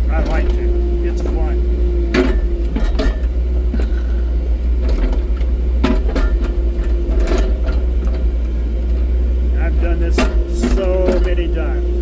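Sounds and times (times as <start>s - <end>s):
hydraulic whine: 0.0s - 12.0s
muffled excavator engine: 0.0s - 12.0s.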